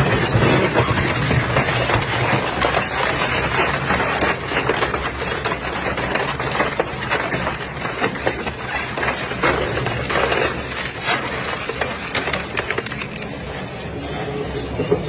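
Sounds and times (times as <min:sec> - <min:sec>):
material cracking and snapping: 0:00.0 - 0:13.6.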